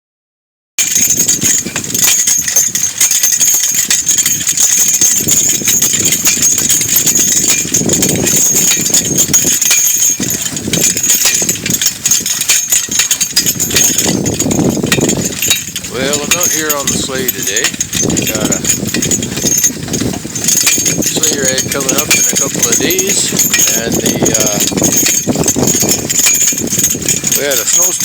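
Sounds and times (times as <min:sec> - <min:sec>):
harness bells jingling: 0:00.8 - 0:28.0.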